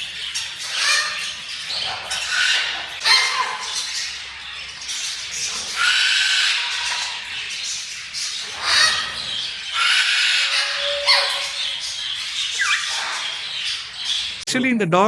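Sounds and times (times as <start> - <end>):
bird chatter: 0.0 - 14.5
birds squawking: 0.0 - 14.5.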